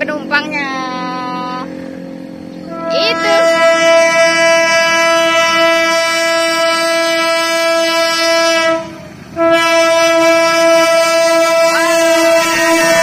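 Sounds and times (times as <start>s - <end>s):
diesel locomotive horn blasts: 0.0s - 13.0s.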